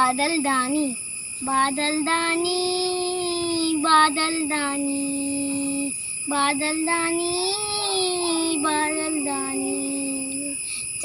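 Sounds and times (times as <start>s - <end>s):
young boy singing: 0.0s - 11.0s.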